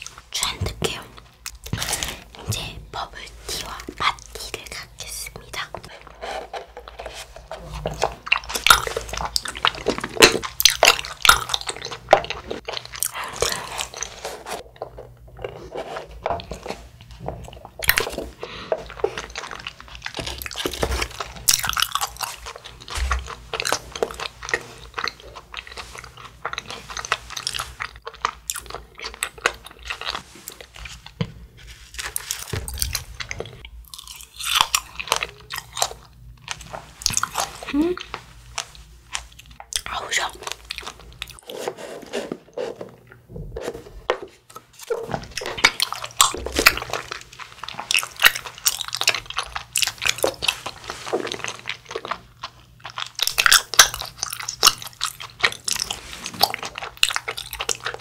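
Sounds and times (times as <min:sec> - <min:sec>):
close chewing with mouth clicks: 0:03.6 - 0:15.6, 0:16.2 - 0:31.2, 0:31.8 - 0:41.5, 0:44.4 - 0:58.0.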